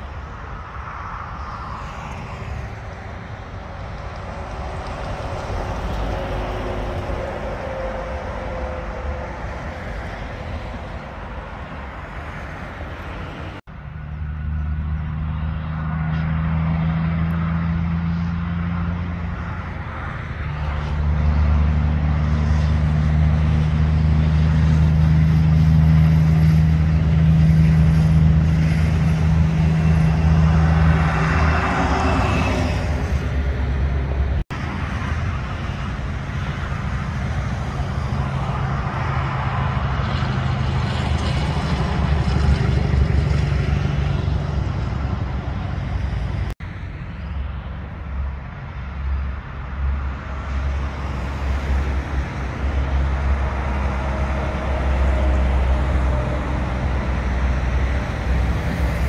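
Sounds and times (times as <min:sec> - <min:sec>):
truck engine drone: 0:00.0 - 0:59.0
trucks driving past: 0:00.0 - 0:59.0.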